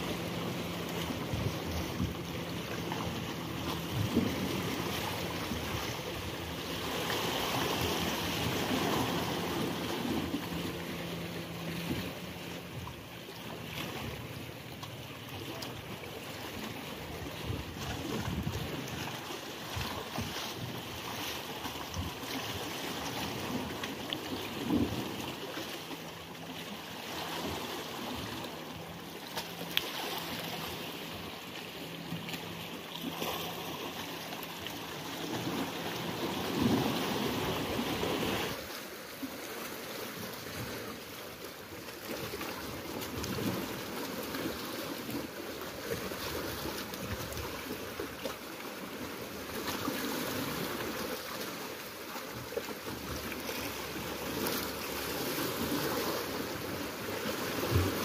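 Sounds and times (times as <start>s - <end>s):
sea waves against rocks: 0.0s - 58.0s.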